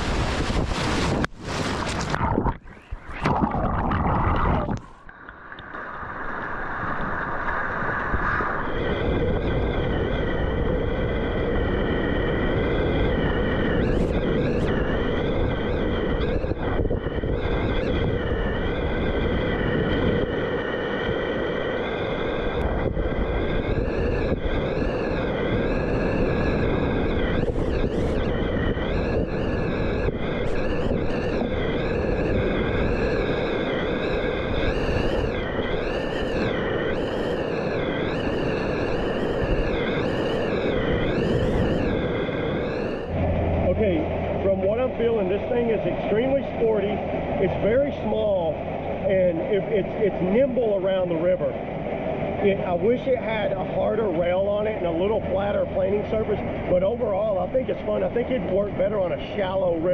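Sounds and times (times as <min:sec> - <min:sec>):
wind buffeting microphone: 0:00.0 - 0:05.0, 0:06.0 - 0:59.9.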